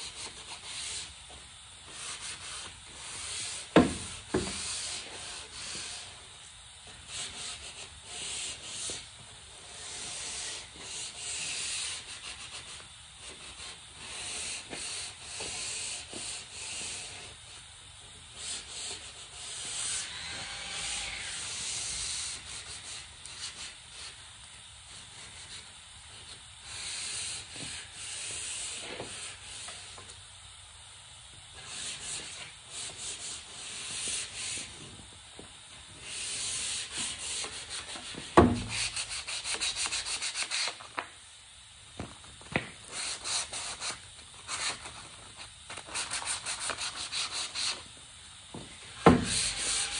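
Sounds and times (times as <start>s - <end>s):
sandpaper rubbing wood: 0.0s - 1.2s, 1.9s - 6.3s, 6.9s - 17.6s, 18.3s - 24.2s, 24.9s - 30.0s, 31.6s - 34.9s, 36.0s - 41.0s, 42.9s - 47.9s, 49.0s - 49.9s.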